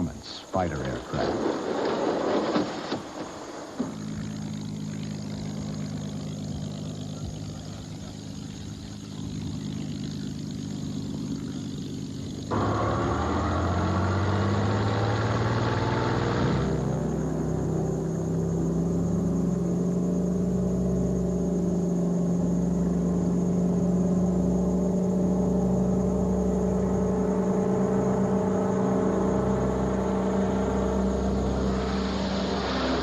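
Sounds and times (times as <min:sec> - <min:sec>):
piston aircraft engine droning: 0:00.0 - 0:33.0.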